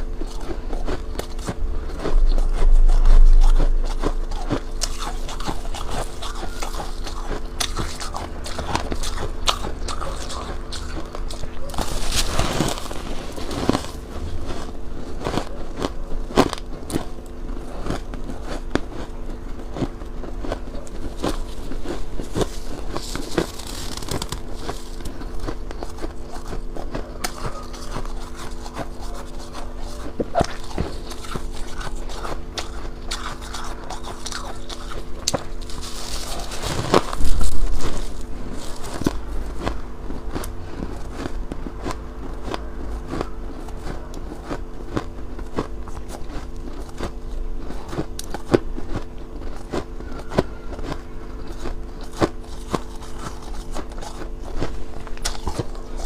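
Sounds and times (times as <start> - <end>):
ice crunching in mouth: 0.0 - 56.0
low hum: 0.0 - 56.0.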